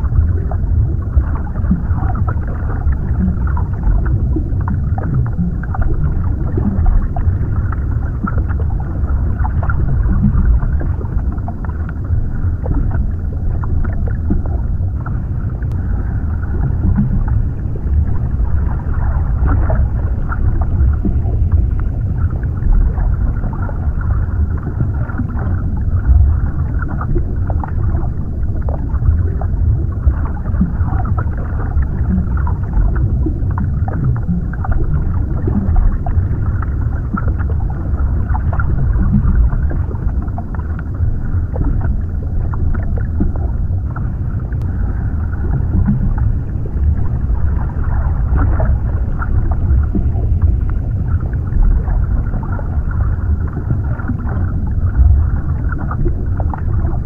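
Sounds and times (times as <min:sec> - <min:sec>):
muffled underwater rumble: 0:00.0 - 0:57.0.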